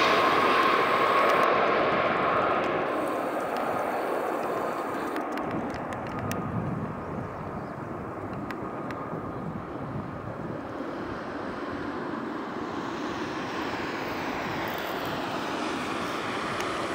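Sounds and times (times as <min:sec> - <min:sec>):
jet engine noise: 0:00.0 - 0:16.9.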